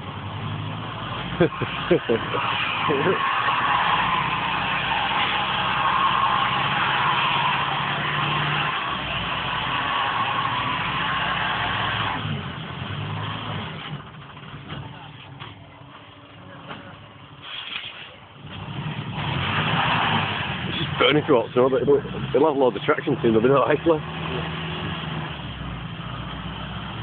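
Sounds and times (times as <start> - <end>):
lorry engine revving: 0.0 - 27.0
tyres spinning on snow: 0.0 - 27.0.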